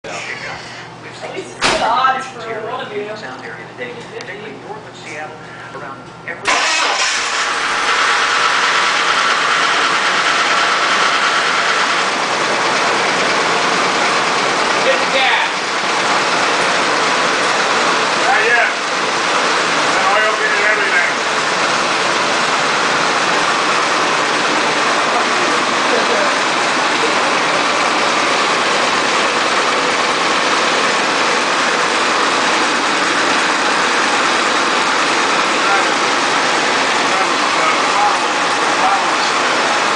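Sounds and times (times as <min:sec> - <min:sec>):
car engine idling: 0:06.4 - 0:39.9.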